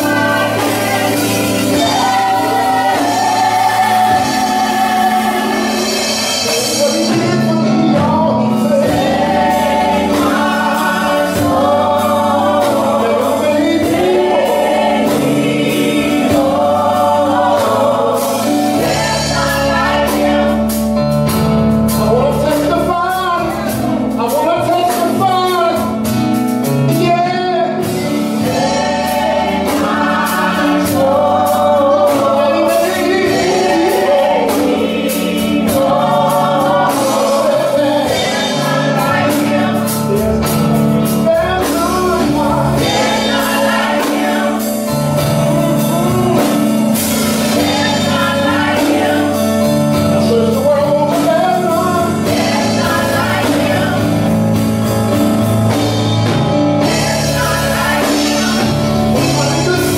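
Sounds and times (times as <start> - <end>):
choir singing: 0.0 - 21.0, 27.6 - 59.9
band on keyboard and drums: 0.0 - 59.9.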